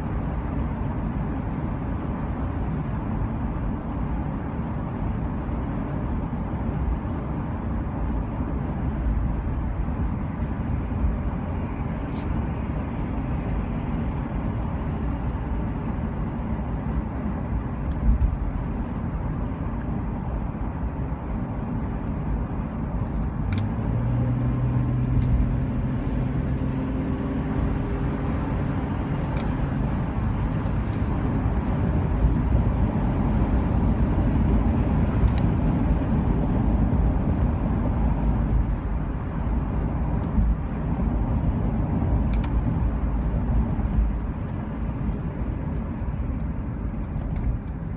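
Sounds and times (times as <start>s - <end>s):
low engine hum: 0.0s - 47.9s
vehicle rumble: 0.0s - 47.9s.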